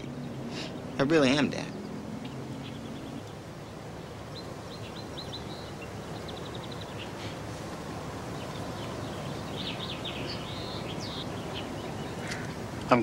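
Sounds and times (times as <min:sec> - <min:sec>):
birds chirping: 0:00.0 - 0:13.0
steady background hiss: 0:00.0 - 0:13.0.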